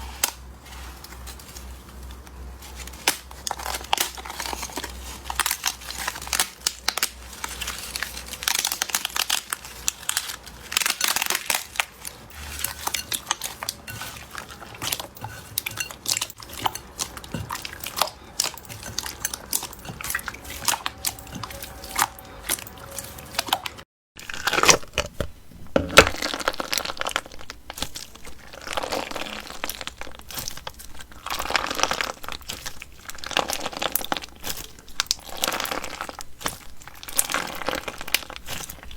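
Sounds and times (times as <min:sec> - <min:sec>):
slime crackling and popping: 0:02.2 - 0:25.3, 0:25.9 - 0:38.9.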